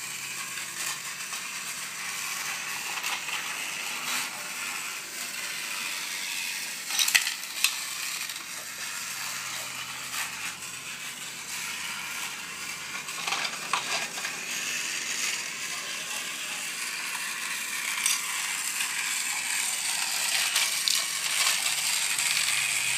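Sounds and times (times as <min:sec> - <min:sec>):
toy train motor whirring: 0:00.0 - 0:22.9.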